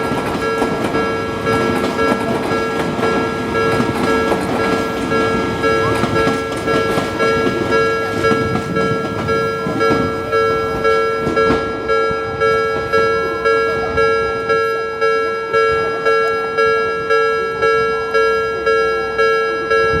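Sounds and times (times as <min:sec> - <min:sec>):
train passing: 0:00.0 - 0:19.6
level crossing warning bell: 0:00.0 - 0:20.0.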